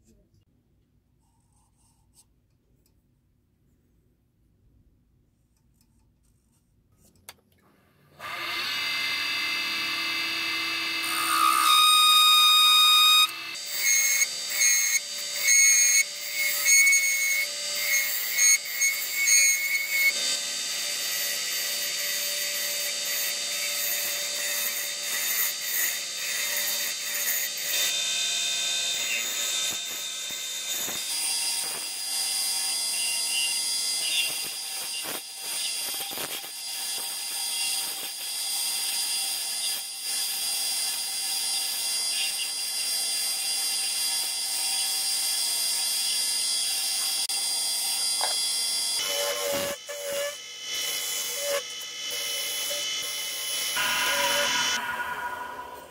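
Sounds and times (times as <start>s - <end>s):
wood lathe whining: 8.2s - 39.5s, 40.2s - 55.9s.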